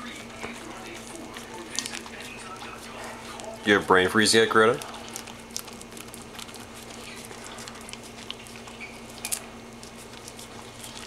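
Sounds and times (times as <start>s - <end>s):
dog licking ice cream: 0.0s - 11.0s.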